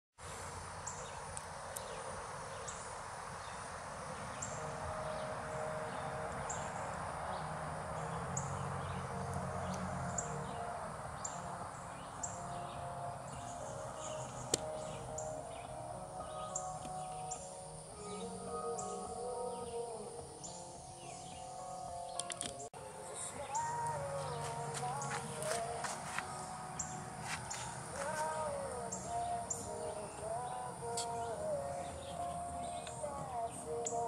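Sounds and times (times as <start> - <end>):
small birds chirping: 0.2 - 34.0.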